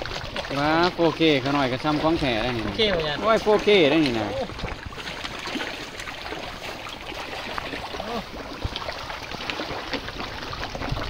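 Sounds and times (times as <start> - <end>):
fish splashing at water surface: 0.0 - 11.0
water washing: 0.0 - 11.0.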